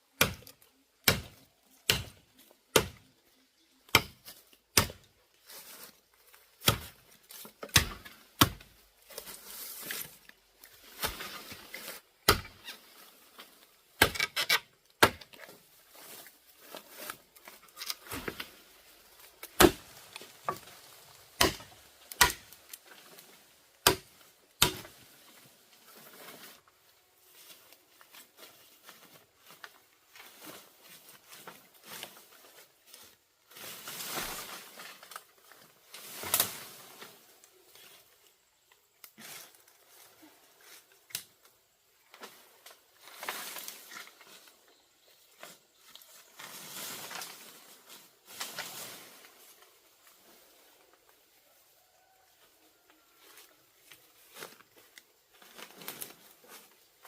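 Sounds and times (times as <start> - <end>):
rustling and scraping: 5.3 - 23.6, 24.2 - 57.0.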